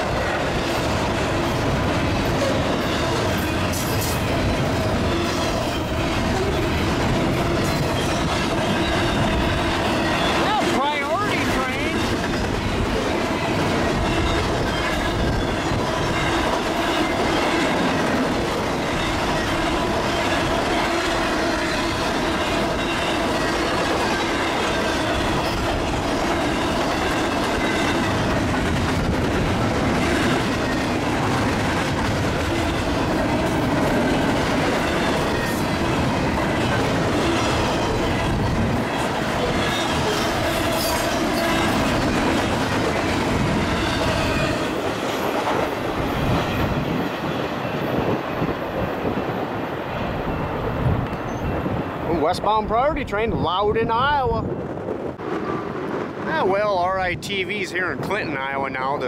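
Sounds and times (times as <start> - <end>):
freight train wheels clattering: 0.0 - 49.0.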